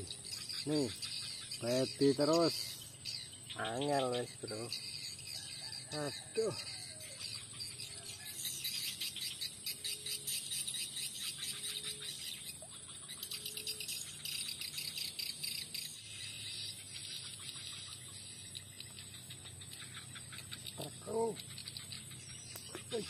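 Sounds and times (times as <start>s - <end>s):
insects chirping chorus: 0.0s - 23.0s.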